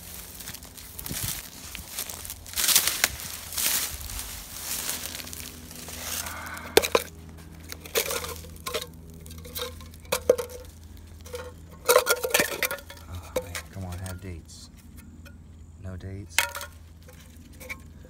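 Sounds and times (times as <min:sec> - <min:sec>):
dry leaves rustling and crunching: 0:00.0 - 0:15.2, 0:16.4 - 0:18.0
hard objects clinking: 0:00.3 - 0:14.2, 0:16.3 - 0:18.0.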